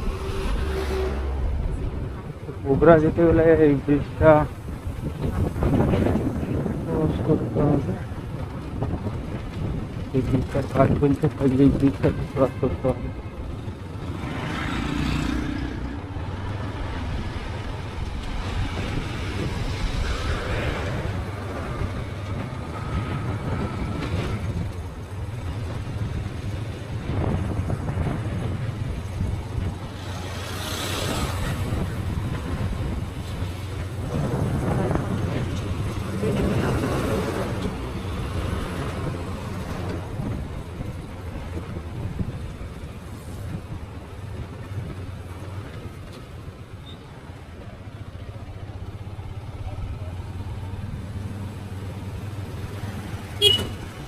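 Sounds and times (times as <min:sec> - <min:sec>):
motorcycle engine hum: 0:00.0 - 0:54.0
road vehicle rumble: 0:00.0 - 0:54.0.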